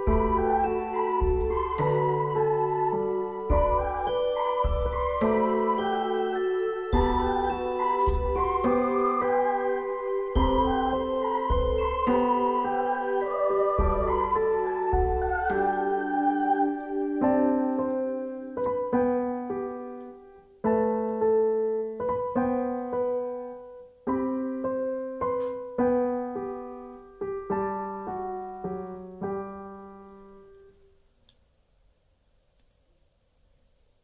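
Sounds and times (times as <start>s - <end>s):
gentle piano music: 0.0s - 31.1s.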